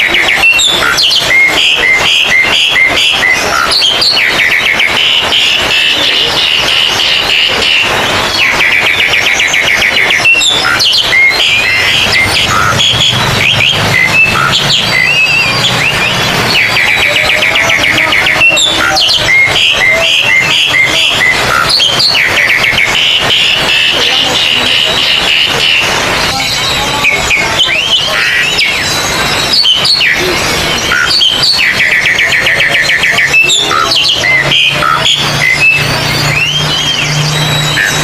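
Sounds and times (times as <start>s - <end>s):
rapid buzzy bird trill: 0.0s - 38.0s
songbirds singing: 0.0s - 38.0s.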